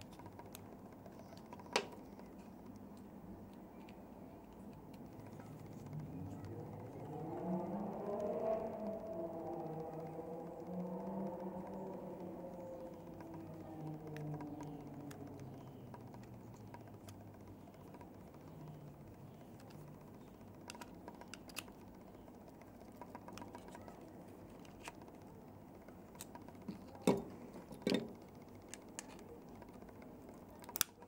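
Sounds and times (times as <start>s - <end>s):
plastic and metal parts clicking: 0.0s - 31.0s.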